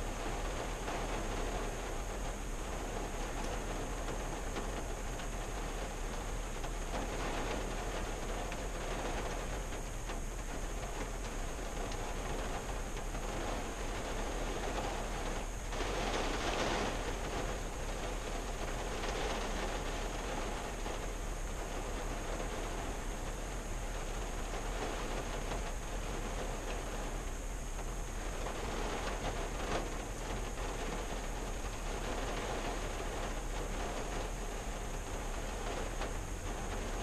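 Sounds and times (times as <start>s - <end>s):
rain on car roof: 0.0s - 37.0s.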